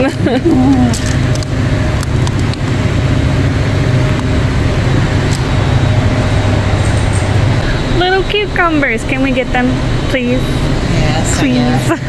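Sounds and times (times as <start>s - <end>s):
refrigeration fans humming: 0.0s - 12.0s.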